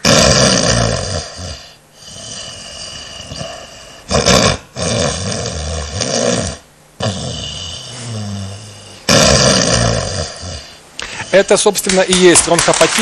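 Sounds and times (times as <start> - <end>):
woman snoring loudly: 0.0 - 10.8.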